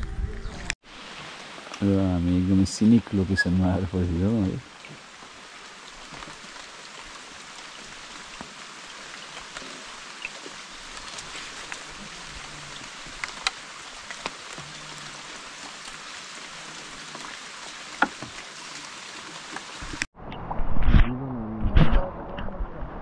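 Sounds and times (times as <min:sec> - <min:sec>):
rain falling on water: 0:00.5 - 0:20.1.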